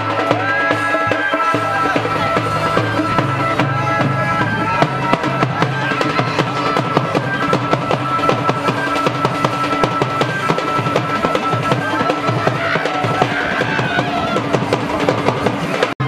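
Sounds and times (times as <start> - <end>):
fast dense drumming: 0.0 - 16.0
held high note: 0.1 - 14.6.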